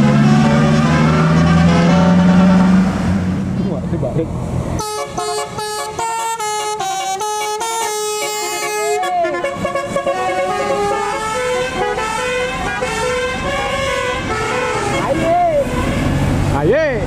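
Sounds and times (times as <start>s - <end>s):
bus musical horn playing a tune: 0.0s - 2.6s, 4.8s - 16.2s
traffic noise: 0.0s - 17.0s.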